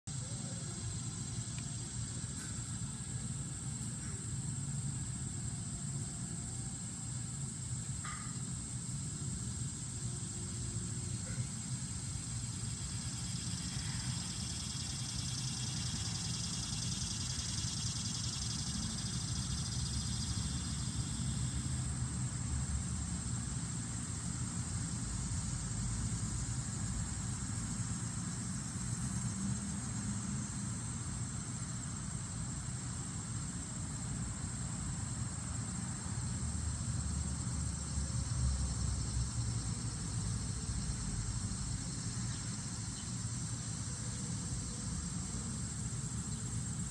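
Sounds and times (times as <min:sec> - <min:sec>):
insects chirring: 0:00.1 - 0:46.9.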